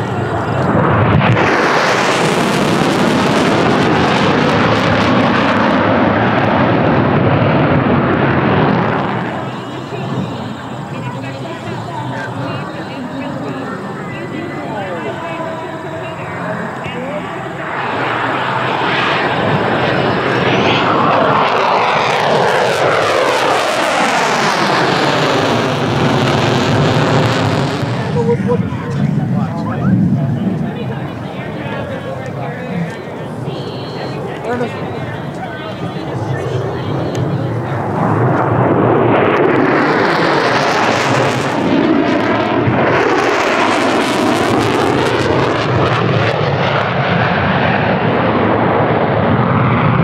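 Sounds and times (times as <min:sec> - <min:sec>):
loud jet engine noise: 0:00.0 - 0:50.0.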